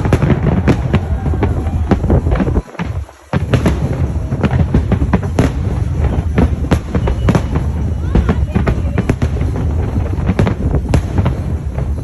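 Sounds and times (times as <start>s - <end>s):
fireworks cracks and booms: 0.0s - 12.0s
low rumble: 0.0s - 12.0s.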